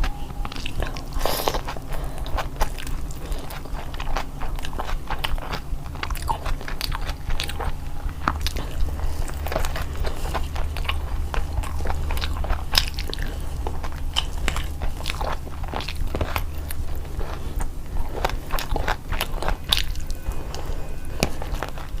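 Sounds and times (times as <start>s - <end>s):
low steady hum: 0.0s - 22.0s
person chewing and crunching: 0.0s - 22.0s.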